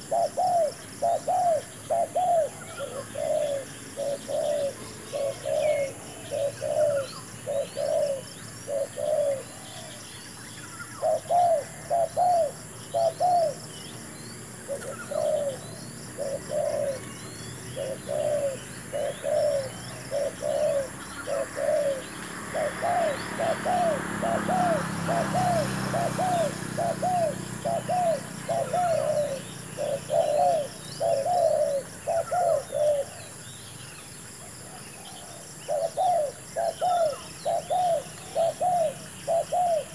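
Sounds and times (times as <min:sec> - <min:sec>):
doves cooing: 0:00.0 - 0:13.7, 0:14.4 - 0:39.9.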